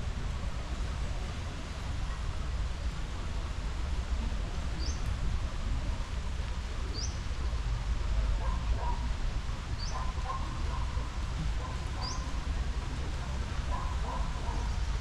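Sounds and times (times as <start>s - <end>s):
low street rumble: 0.0s - 15.0s.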